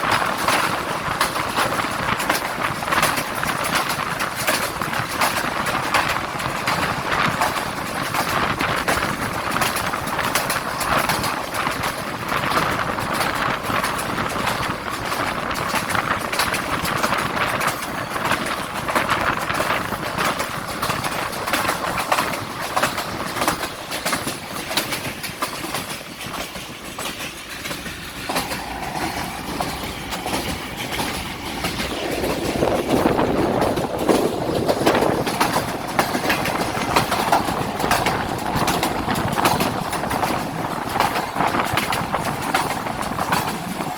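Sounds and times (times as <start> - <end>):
train rumbling on rails: 0.0 - 43.9.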